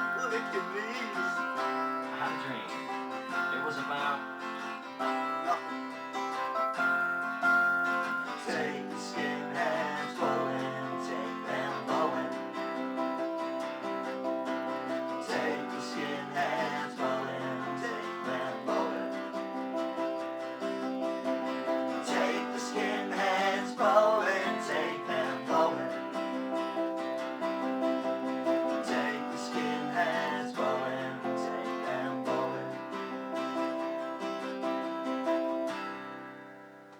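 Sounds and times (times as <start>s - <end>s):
band playing string instruments: 0.0s - 34.4s.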